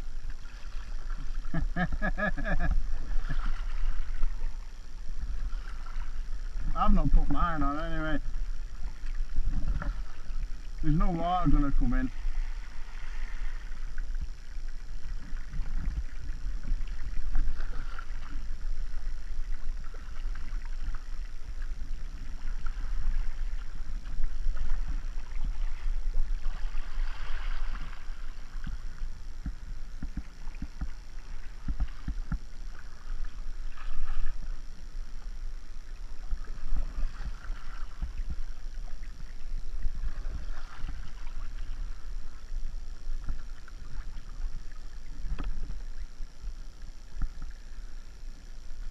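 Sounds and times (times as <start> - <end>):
water splashing past hull: 0.0 - 35.1, 35.8 - 46.3
paddle strokes in water: 0.0 - 46.5
steady low rumble: 0.0 - 48.9.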